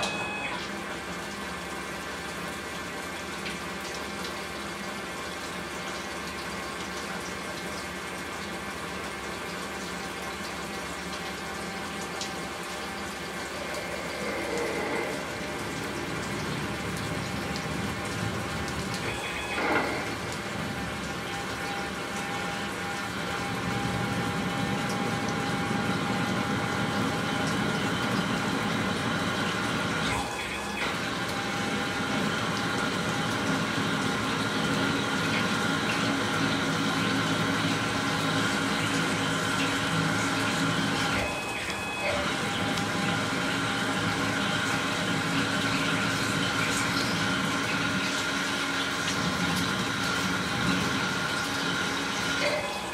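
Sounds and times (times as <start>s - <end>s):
coolant spraying and splashing: 0.7s - 52.9s.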